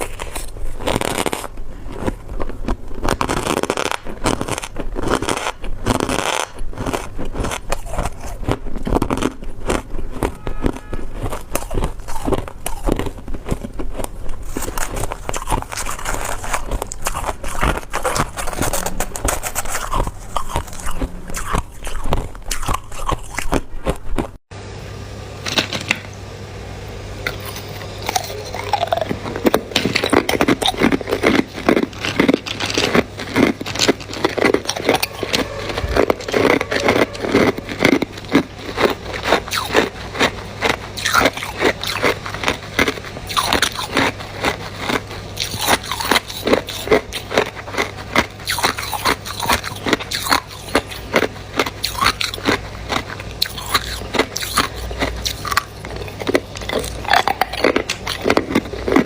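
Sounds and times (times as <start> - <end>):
ice being chewed: 0.0 - 24.4, 27.3 - 59.0.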